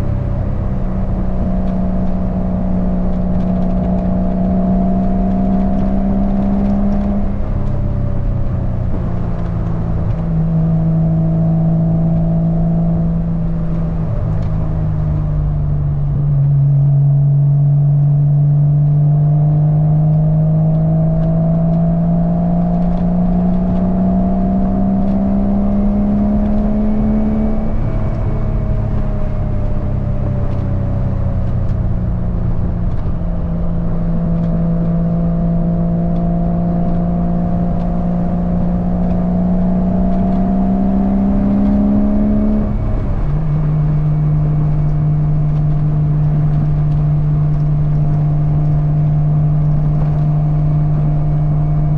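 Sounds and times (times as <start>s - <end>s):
sports car engine revving: 0.0s - 51.9s.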